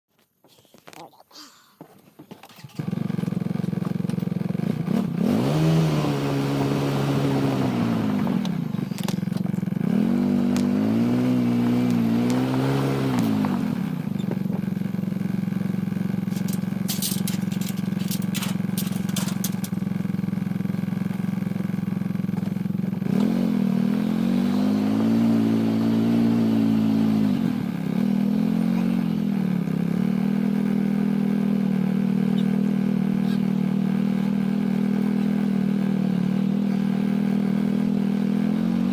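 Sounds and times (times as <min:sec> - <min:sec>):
vehicle engine droning: 0:02.2 - 0:38.9.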